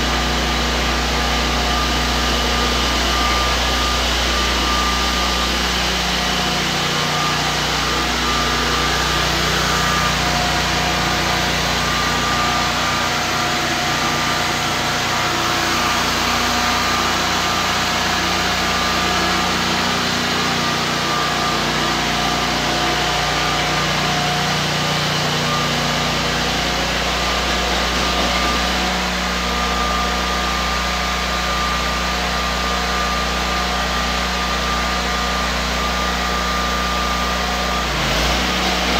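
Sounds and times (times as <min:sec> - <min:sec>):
concrete floor grinder running: 0:00.0 - 0:38.9.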